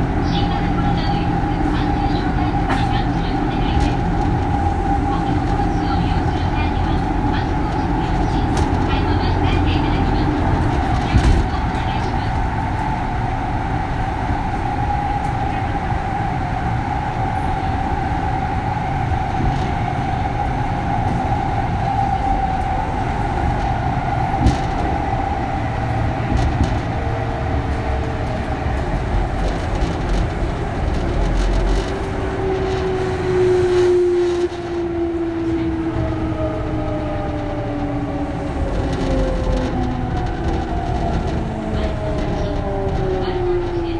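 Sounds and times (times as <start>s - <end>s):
train running rumble: 0.0s - 43.9s.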